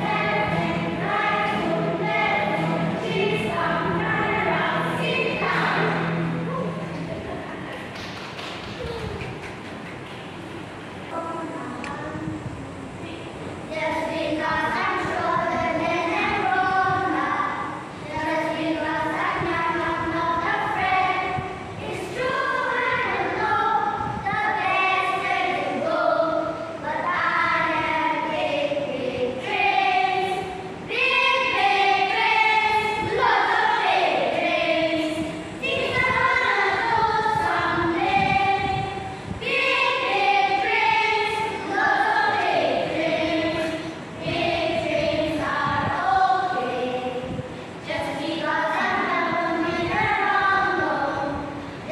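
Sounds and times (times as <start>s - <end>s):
children's choir singing: 0.0s - 8.7s, 13.5s - 51.9s.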